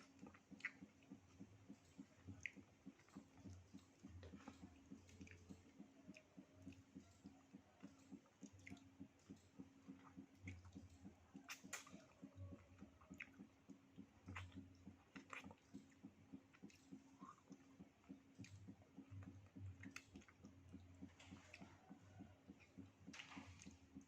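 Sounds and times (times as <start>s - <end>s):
close-up chewing: 0.0s - 24.0s
faint steady hum: 0.0s - 24.0s.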